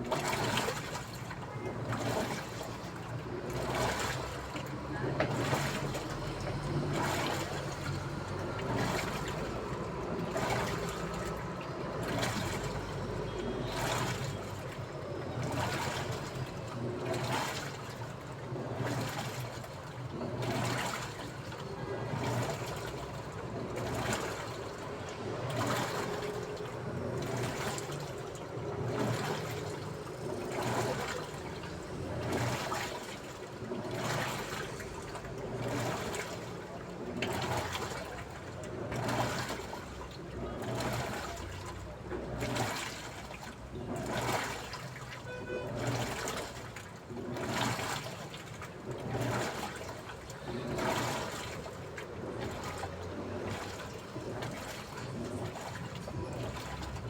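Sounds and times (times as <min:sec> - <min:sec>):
water sloshing in washing machine: 0:00.0 - 0:57.0.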